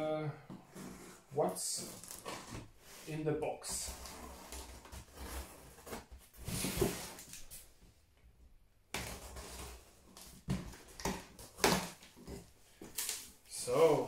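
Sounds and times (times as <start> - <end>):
cardboard scraping and tearing: 0.6 - 7.4, 9.0 - 14.0.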